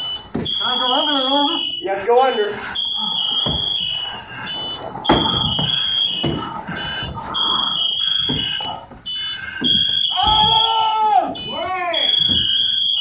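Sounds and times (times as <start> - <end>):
high-pitched electronic alarm: 0.0 - 13.0.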